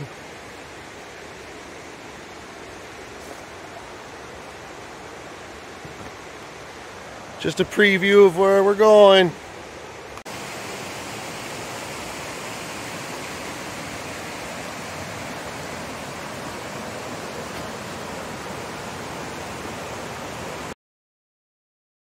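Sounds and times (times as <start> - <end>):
stream rushing over stones: 0.0 - 20.8.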